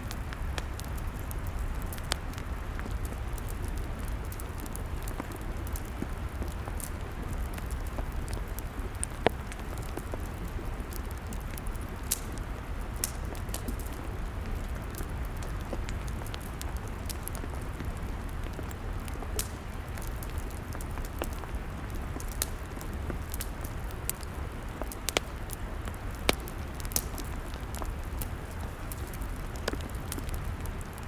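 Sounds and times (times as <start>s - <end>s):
log fire crackling and popping: 0.0s - 31.0s
low rumble of flames: 0.0s - 31.0s.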